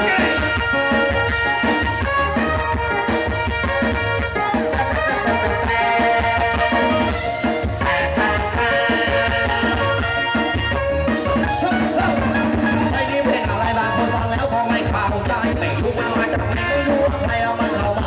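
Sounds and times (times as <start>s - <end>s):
live band through loud sound system: 0.0s - 18.0s.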